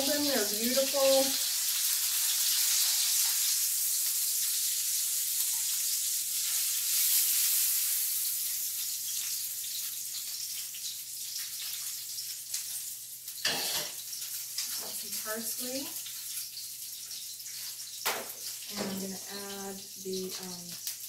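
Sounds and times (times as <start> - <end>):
oil sizzling in frying pan: 0.0 - 21.0.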